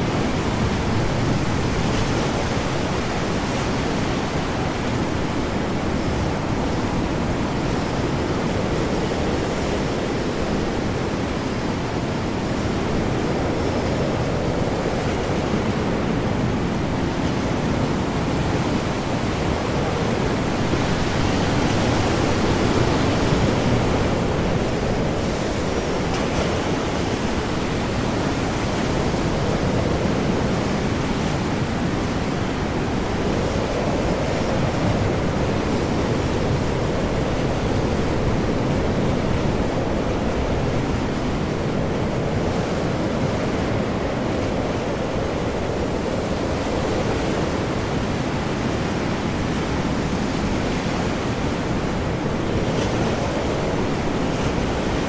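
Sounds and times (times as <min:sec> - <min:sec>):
heavy breaking waves: 0:00.0 - 0:55.0
high wind: 0:00.0 - 0:55.0.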